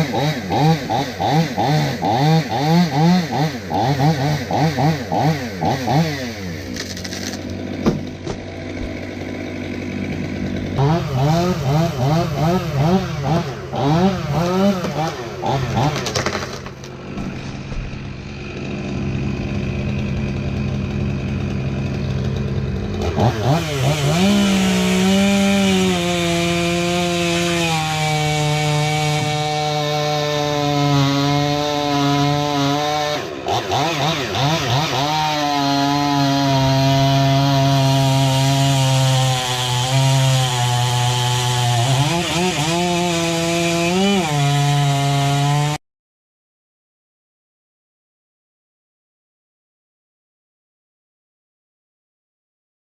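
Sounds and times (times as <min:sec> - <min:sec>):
chainsaw revving: 0:00.0 - 0:45.8.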